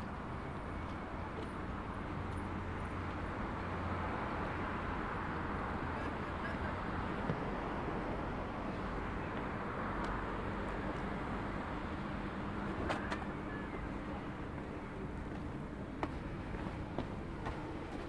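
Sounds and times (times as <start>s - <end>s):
distant road traffic hum: 0.0s - 18.0s.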